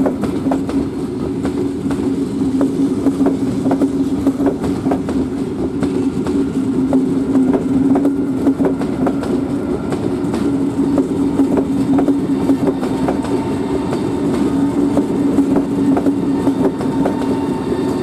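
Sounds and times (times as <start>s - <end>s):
electric train humming: 0.0s - 18.0s
train wheels clicking over rail joints: 0.0s - 18.0s.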